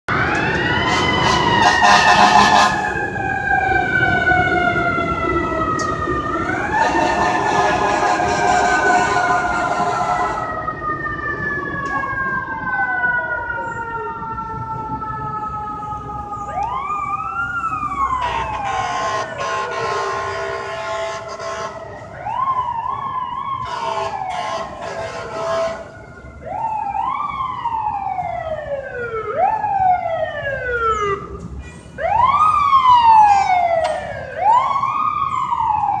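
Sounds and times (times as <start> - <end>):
electronic siren wail: 0.1 - 31.3
siren winding down: 0.1 - 31.3
fire truck engines running: 0.1 - 36.0.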